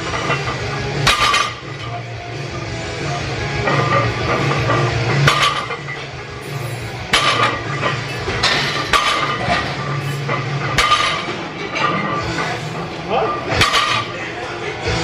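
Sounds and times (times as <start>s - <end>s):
barbell plates clanking: 0.0s - 1.9s, 3.4s - 14.3s.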